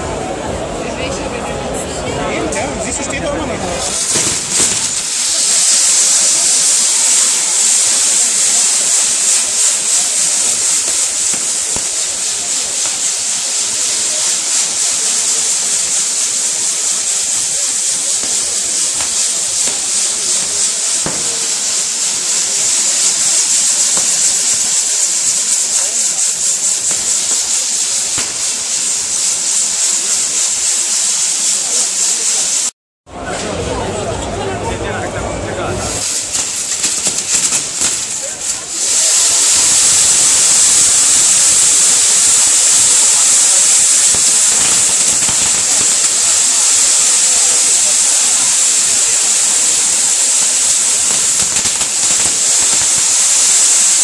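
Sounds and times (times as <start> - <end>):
firework hissing sparks: 0.0 - 34.4, 35.2 - 54.0.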